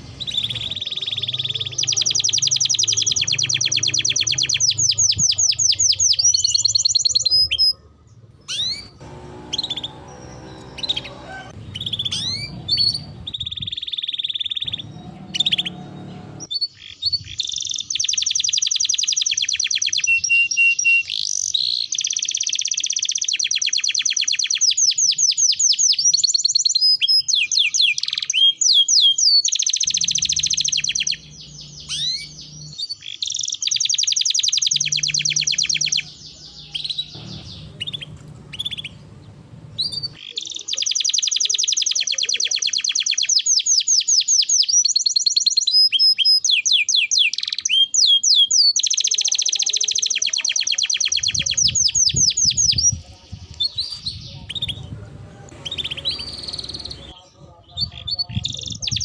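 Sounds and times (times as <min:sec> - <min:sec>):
songbird trilling: 0:00.0 - 0:07.8, 0:08.4 - 0:59.0.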